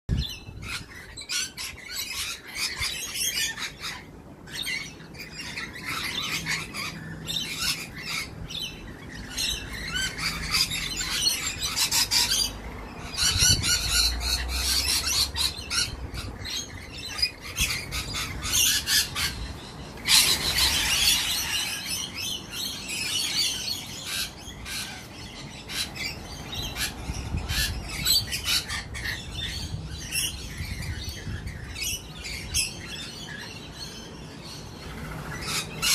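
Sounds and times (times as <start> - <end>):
parrots calling: 0.1 - 35.9.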